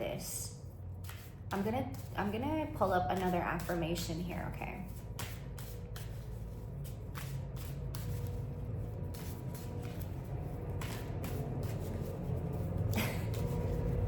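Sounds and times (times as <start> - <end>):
low rumble of equipment: 0.0 - 14.0.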